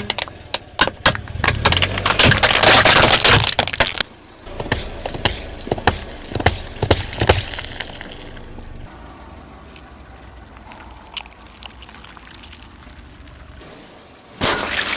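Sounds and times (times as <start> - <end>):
objects crunching under tyre: 0.0 - 13.6.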